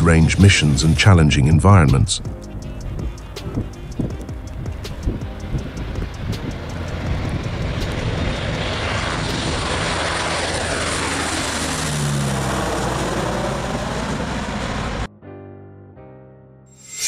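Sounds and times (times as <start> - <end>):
turboprop plane passing overhead: 0.0 - 15.1.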